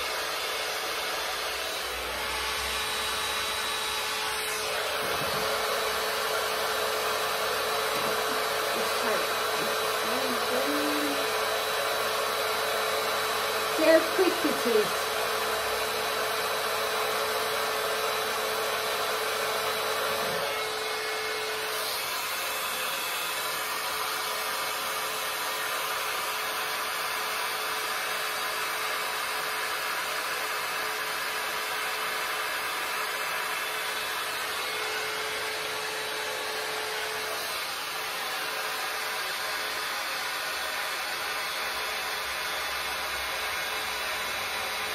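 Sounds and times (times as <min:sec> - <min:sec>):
hot air brush blowing: 0:00.0 - 0:44.9.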